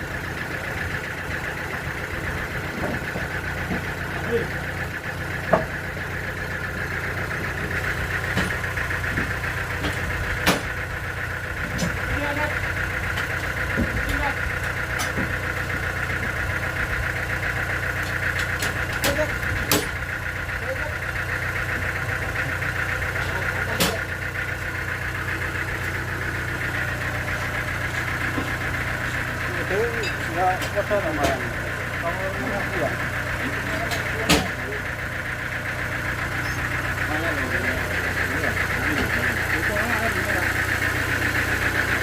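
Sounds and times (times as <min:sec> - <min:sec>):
sawmill engine running: 0:00.0 - 0:42.0.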